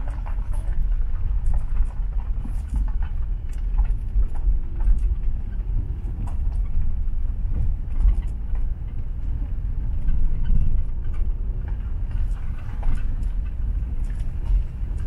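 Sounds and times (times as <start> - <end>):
car driving on gravel road: 0.0 - 15.0
gravel clicking under tyres: 0.0 - 15.0.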